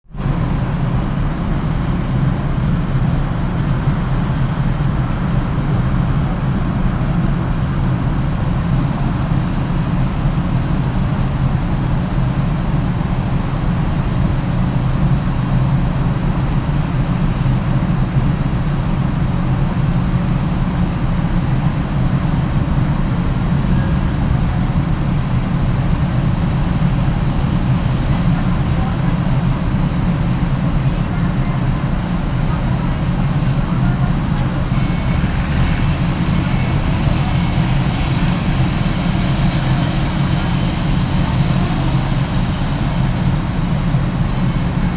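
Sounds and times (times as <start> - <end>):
ship engines rumbling: 0.1 - 44.9.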